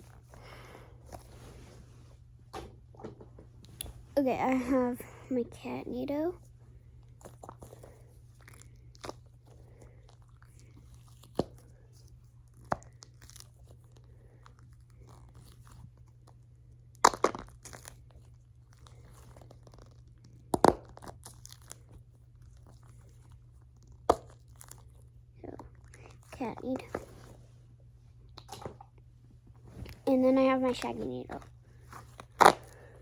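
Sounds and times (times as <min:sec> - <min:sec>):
steady low hum: 0:00.0 - 0:17.0, 0:21.5 - 0:33.0.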